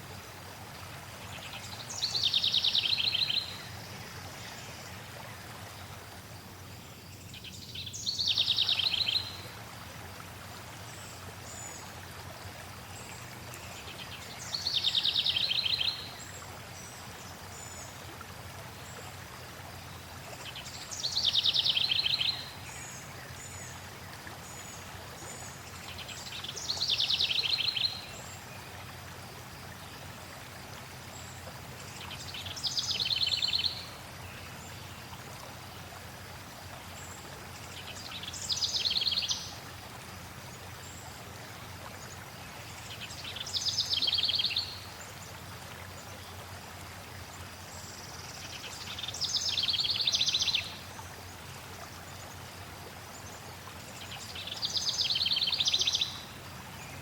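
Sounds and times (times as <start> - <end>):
flowing water: 0.0 - 57.0.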